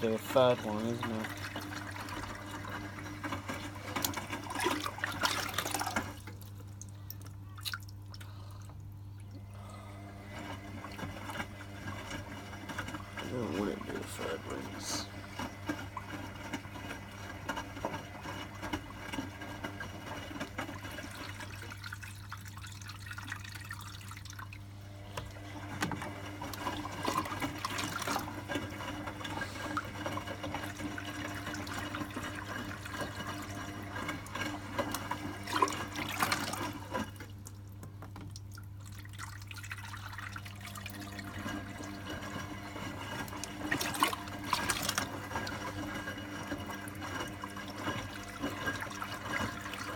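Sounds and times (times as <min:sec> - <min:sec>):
washing machine low hum: 0:00.0 - 0:49.9
water running into washing machine: 0:00.0 - 0:49.9.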